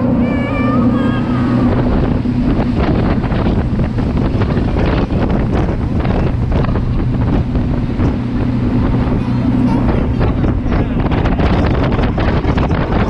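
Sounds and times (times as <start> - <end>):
boat engines running fast: 0.0 - 13.0
wind buffeting microphone: 0.0 - 13.0.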